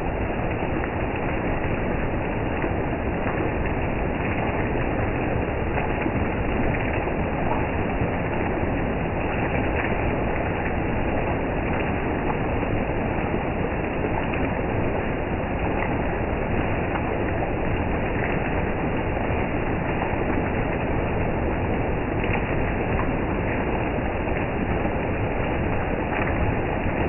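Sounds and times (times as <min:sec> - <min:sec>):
heavy rain on foliage: 0:00.0 - 0:27.0.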